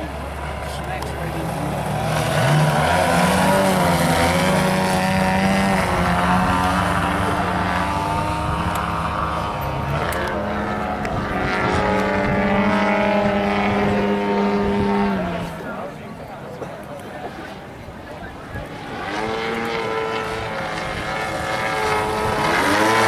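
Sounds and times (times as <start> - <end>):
model airplane engines buzzing: 0.0 - 23.0.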